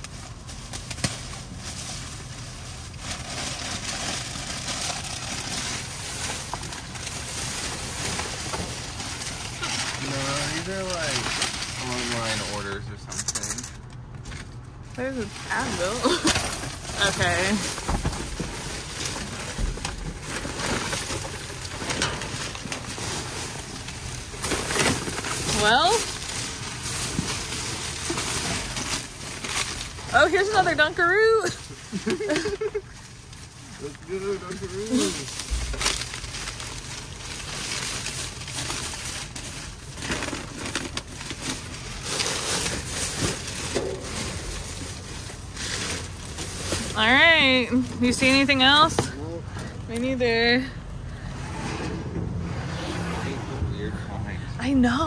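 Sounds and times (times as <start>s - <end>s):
plastic bags rustling and crinkling: 0.0s - 51.2s.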